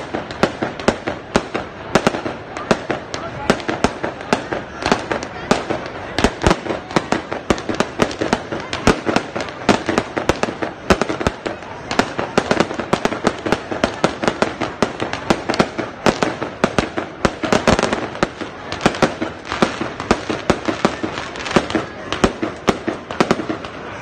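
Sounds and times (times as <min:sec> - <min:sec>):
fireworks crackling: 0:00.0 - 0:24.0
fireworks popping and banging: 0:00.0 - 0:24.0.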